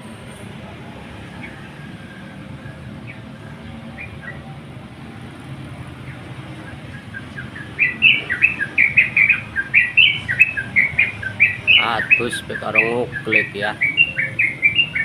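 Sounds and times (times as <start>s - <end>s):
bird singing chirping phrases: 1.3s - 15.0s.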